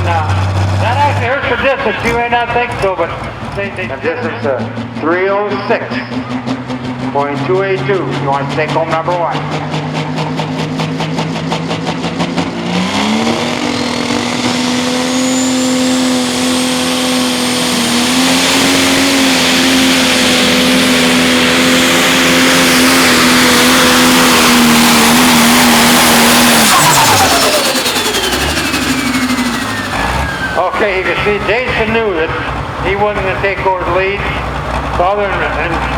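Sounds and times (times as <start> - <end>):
diesel engine revving: 0.0 - 35.9
high turbo whine: 0.0 - 35.9.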